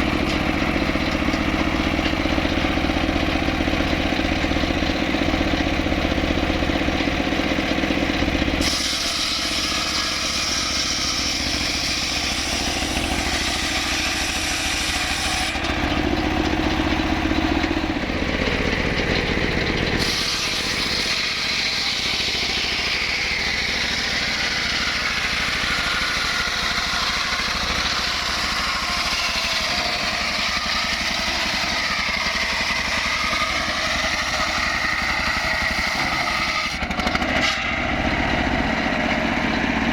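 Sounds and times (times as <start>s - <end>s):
log saw engine running: 0.0s - 39.9s.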